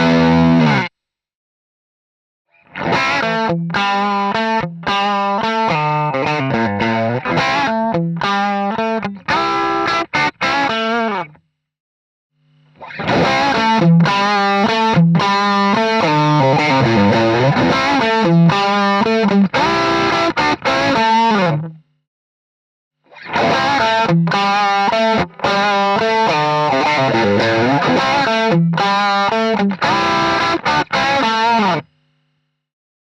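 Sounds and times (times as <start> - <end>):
overdriven electric guitar: 0.0 - 0.9, 2.6 - 11.4, 12.7 - 21.8, 23.1 - 32.0.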